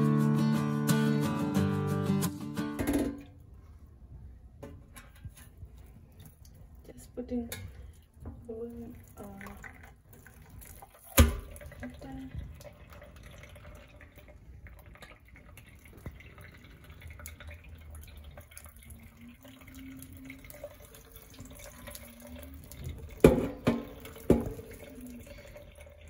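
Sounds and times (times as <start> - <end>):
tap water trickling and splashing: 4.6 - 26.0.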